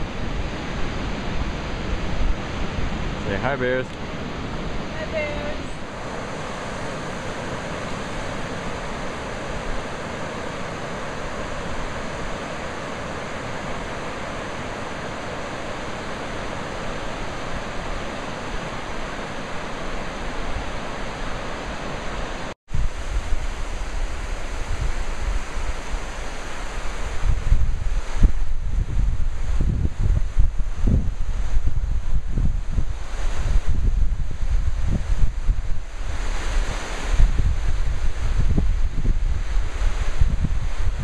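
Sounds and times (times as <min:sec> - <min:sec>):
wind buffeting microphone: 0:00.0 - 0:15.2, 0:22.1 - 0:41.0
ocean surf breaking on beach: 0:00.0 - 0:41.0.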